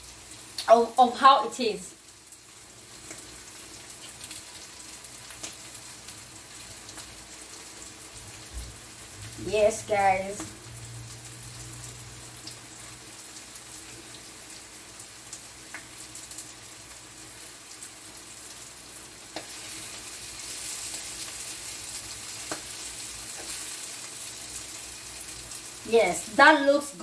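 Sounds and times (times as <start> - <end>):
fish sizzling in a pan: 0.0 - 27.0.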